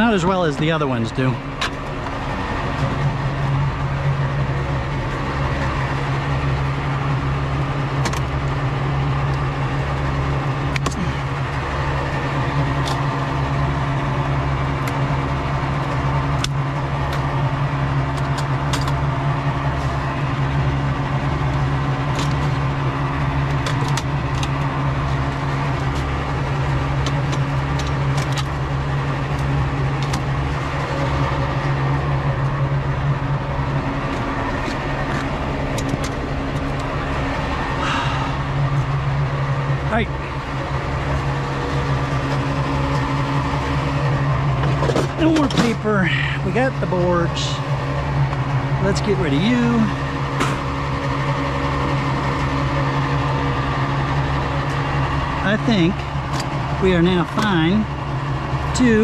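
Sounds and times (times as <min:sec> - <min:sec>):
throbbing motor drone: 0:00.0 - 0:59.0.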